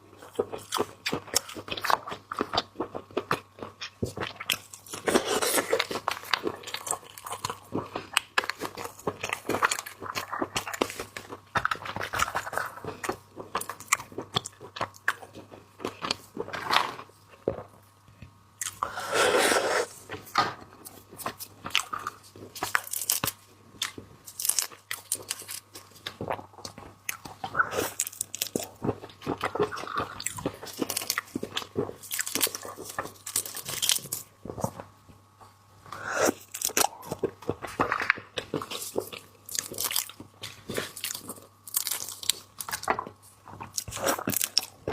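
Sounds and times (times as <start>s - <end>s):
person eating seafood crunching: 0.2s - 17.6s, 20.8s - 34.3s, 36.0s - 44.9s.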